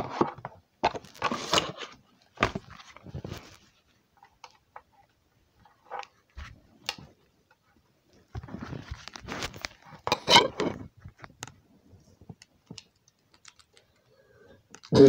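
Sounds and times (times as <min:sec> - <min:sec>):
small objects being handled: 0:00.1 - 0:14.9.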